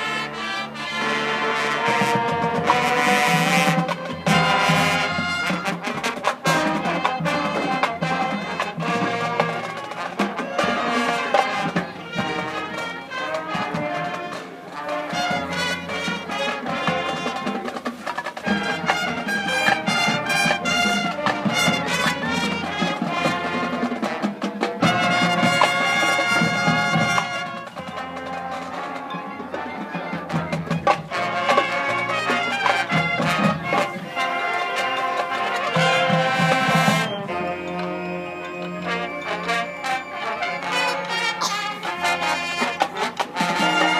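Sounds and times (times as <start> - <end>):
held brass chord: 0.0 - 43.9
marching band playing: 0.0 - 43.9.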